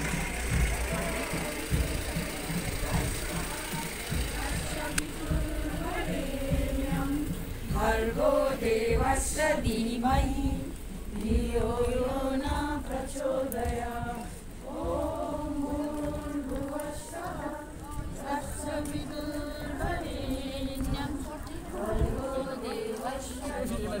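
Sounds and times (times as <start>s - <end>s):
group of voices chanting: 0.0s - 24.0s.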